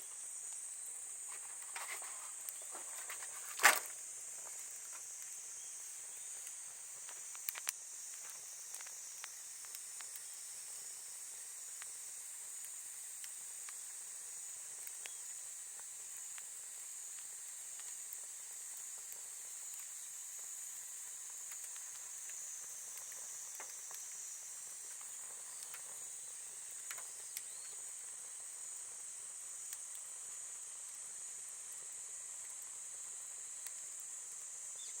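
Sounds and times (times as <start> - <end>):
campfire crackling and popping: 0.0 - 35.0
insect chorus: 0.0 - 35.0.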